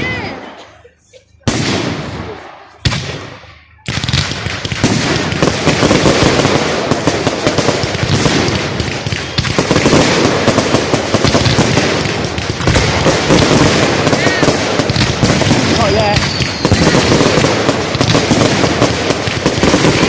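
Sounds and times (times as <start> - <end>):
fireworks bangs and crackling: 1.3 - 20.0.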